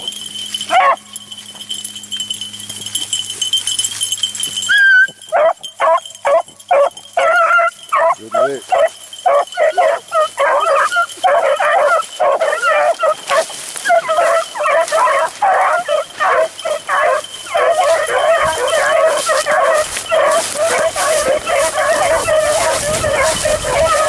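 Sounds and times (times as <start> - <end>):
dogs baying: 0.0 - 24.0.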